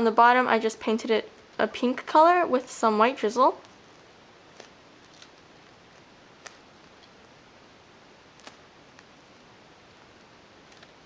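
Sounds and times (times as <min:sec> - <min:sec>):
quiet background hiss: 0:00.0 - 0:11.0.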